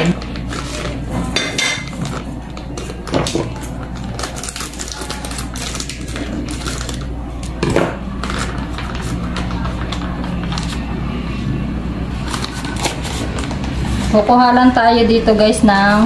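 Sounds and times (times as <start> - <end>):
plastic bag rustling: 0.0 - 11.5, 12.1 - 14.3.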